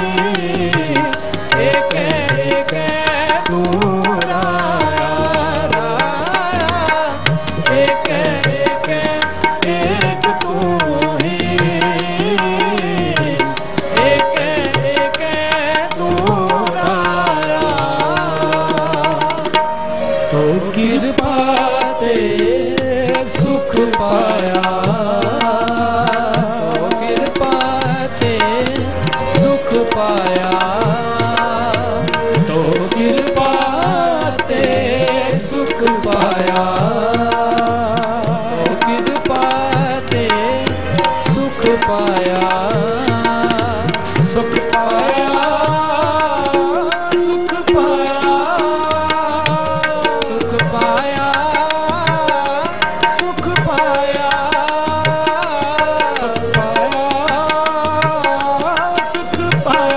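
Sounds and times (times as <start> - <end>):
harmonium melody: 0.0 - 59.9
tabla rhythm: 0.0 - 59.9.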